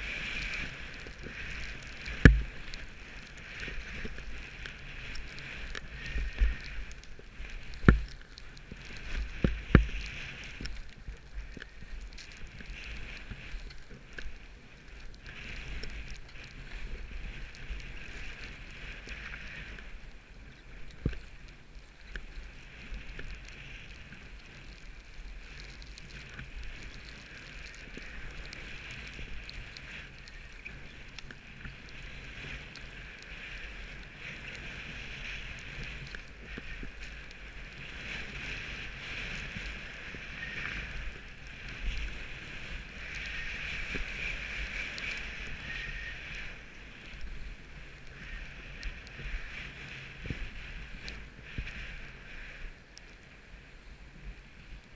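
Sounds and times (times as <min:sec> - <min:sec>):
skis hissing over snow: 0:00.0 - 0:54.7
wind rumbling on microphone: 0:00.0 - 0:54.9.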